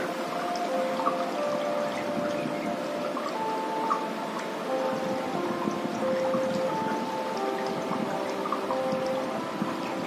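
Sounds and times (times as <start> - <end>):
soft music of long held notes: 0.0 - 10.0
steady hiss: 0.0 - 10.0.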